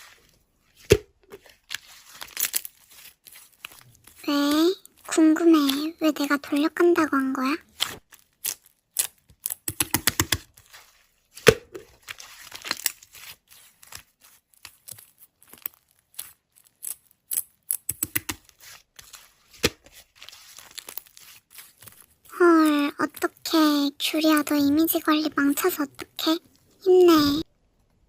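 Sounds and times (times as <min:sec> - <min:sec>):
slime squished crackling: 0:00.0 - 0:27.5.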